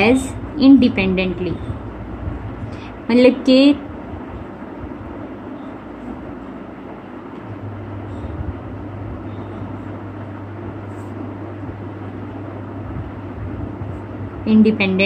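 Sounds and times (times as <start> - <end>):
background rumble and hiss: 0.0 - 15.0
low steady hum: 0.0 - 15.0.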